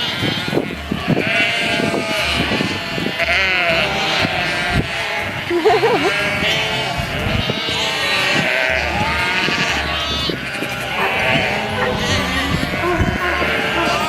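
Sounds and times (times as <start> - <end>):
sheep bleating: 0.0 - 14.0.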